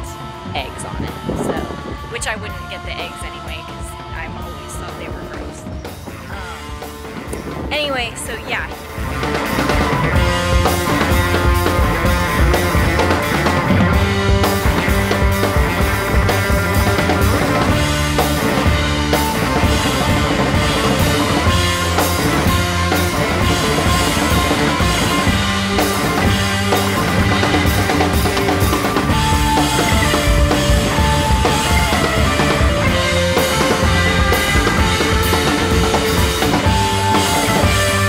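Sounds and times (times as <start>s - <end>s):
rock music with drums and guitar: 0.0s - 38.0s.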